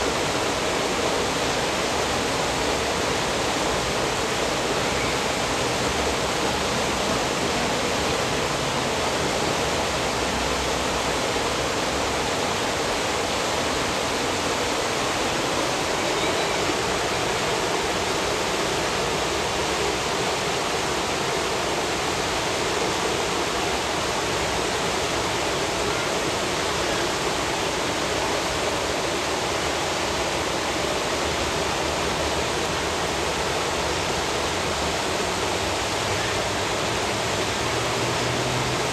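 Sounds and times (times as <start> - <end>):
turbulent water rushing: 0.0 - 38.9.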